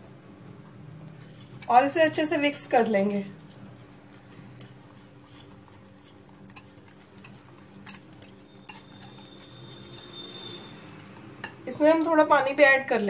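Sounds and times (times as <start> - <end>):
whisk stirring in glass bowl: 1.2 - 11.9.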